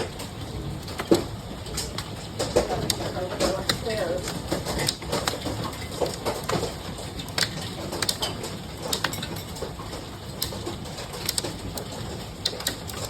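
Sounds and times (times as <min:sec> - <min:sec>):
hailstones striking hard surfaces: 0:00.0 - 0:13.0
rush of falling hail: 0:00.0 - 0:13.0.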